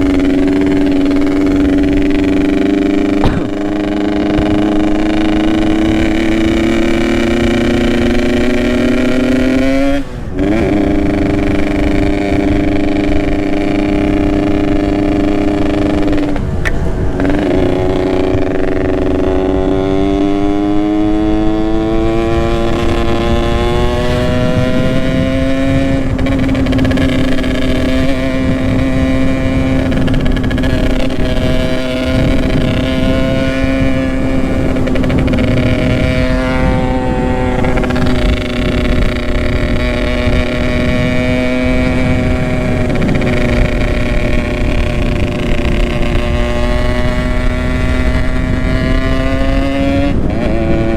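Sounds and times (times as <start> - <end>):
two-stroke motorcycle engine: 0.0 - 50.9.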